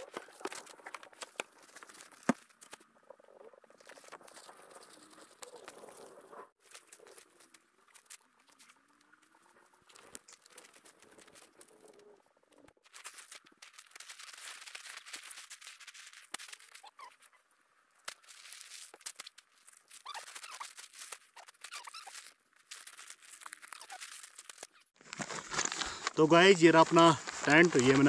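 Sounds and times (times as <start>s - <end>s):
tent fabric rustling and crinkling: 3.7s - 12.0s, 12.8s - 17.4s, 18.0s - 28.0s.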